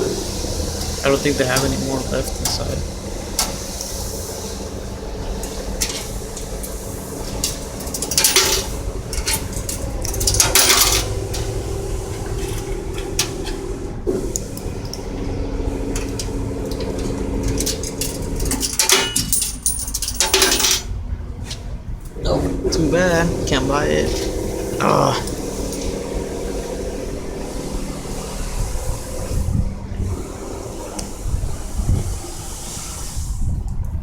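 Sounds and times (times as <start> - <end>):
vending machine clanking: 0.0 - 27.4
mechanical hum: 0.0 - 34.0.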